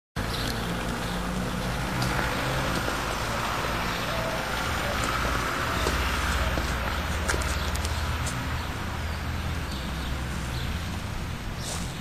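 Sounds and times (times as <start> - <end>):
road traffic hum: 0.2 - 12.0.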